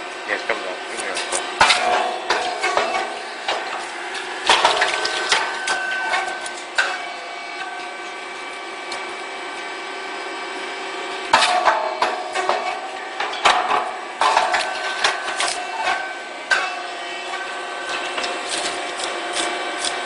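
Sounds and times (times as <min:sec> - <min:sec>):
motor hum: 0:00.0 - 0:20.0.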